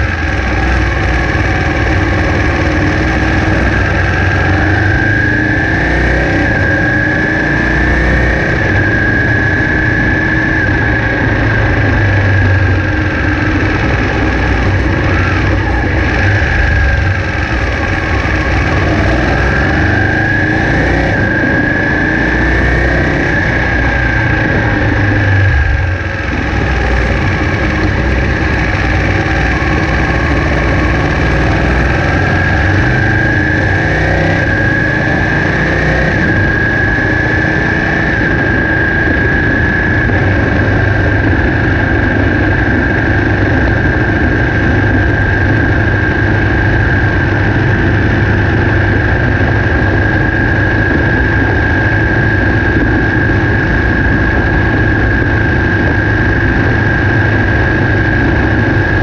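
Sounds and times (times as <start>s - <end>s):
motorcycle engine running: 0.0s - 59.0s
steady high whine: 0.0s - 59.0s.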